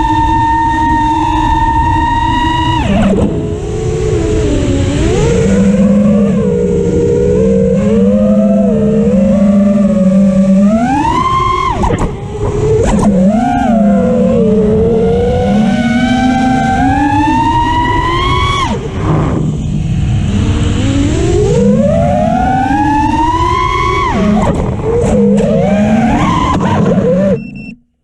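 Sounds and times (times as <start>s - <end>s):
quadcopter motors whining: 0.0s - 27.7s.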